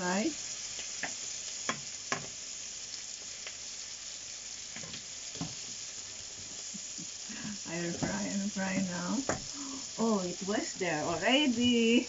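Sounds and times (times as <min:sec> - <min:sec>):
tomatoes sizzling in a pan: 0:00.0 - 0:12.0.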